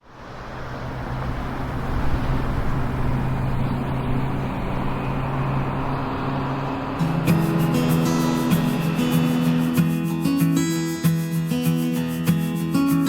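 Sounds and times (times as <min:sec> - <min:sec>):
vehicle engine hum: 0:00.0 - 0:12.6
broad rushing noise: 0:00.0 - 0:13.0.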